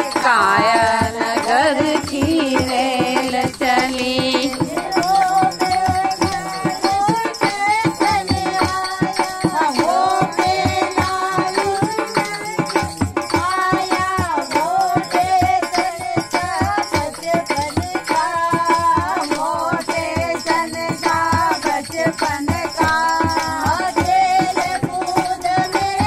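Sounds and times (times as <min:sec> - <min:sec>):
hand drum beating: 0:00.0 - 0:26.0
hand-clapping: 0:00.0 - 0:26.0
women singing together: 0:00.0 - 0:26.0.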